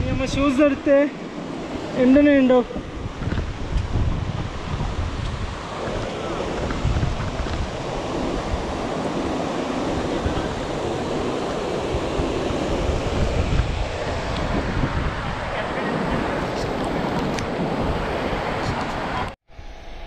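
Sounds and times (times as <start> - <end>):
mountain stream rushing: 0.0 - 19.4
wind gusting on microphone: 0.0 - 19.4.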